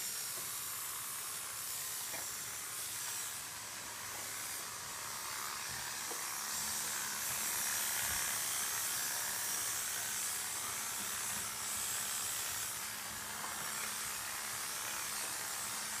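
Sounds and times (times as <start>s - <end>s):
electric clippers running: 0.0s - 16.0s.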